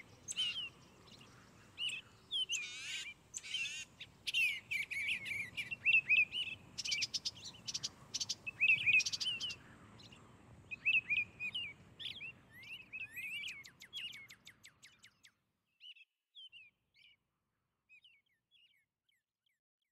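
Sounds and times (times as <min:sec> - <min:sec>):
songbirds chirping: 0:00.0 - 0:19.3.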